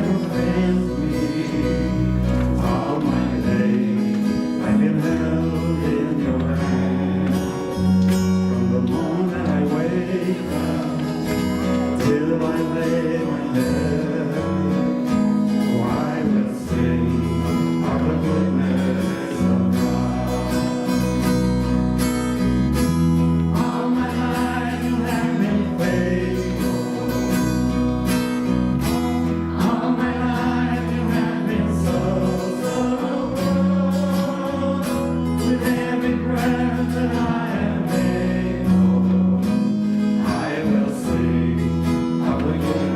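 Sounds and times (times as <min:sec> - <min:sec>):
acoustic guitar: 0:00.0 - 0:42.9
bass: 0:00.0 - 0:42.9
people singing: 0:00.0 - 0:42.9.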